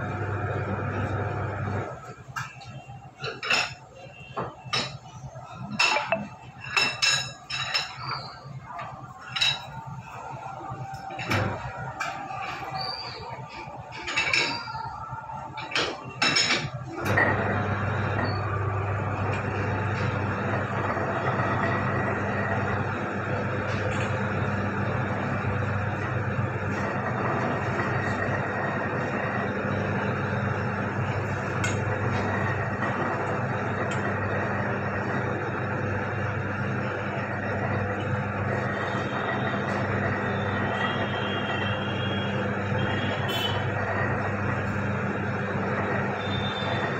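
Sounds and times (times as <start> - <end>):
pipe rolling machine humming: 0.0 - 46.9.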